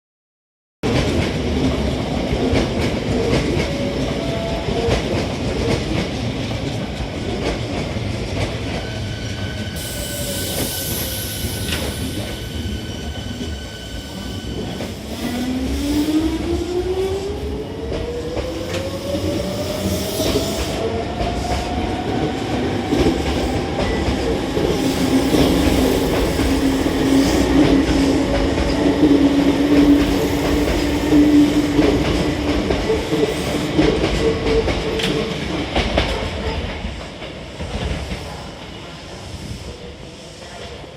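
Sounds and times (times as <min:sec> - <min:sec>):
train rumble and rail clatter: 0:00.8 - 0:40.9.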